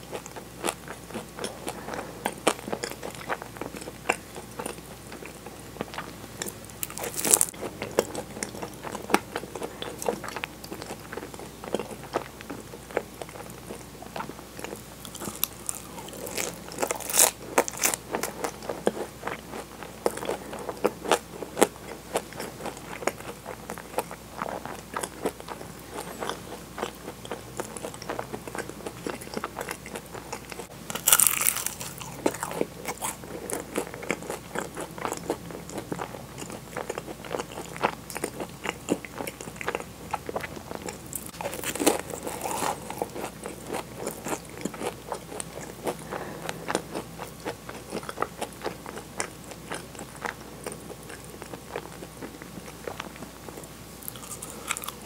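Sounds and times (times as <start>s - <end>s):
pastry crunching and chewing: 0.0s - 55.0s.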